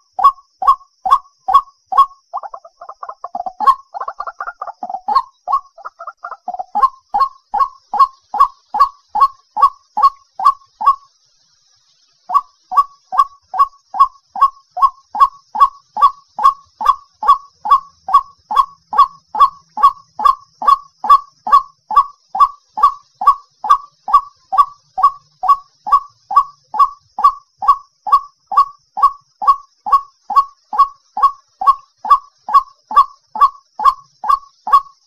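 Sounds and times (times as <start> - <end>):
bird calling short repeated notes: 0.0 - 11.1, 12.2 - 35.0.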